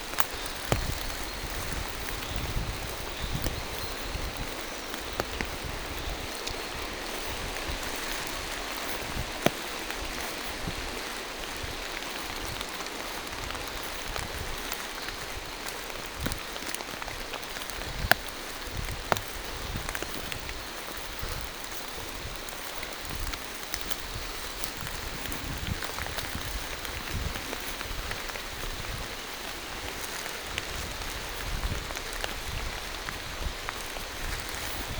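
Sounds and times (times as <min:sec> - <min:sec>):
sharp raindrop taps: 0:00.0 - 0:29.2
steady rain in a forest: 0:00.0 - 0:34.9.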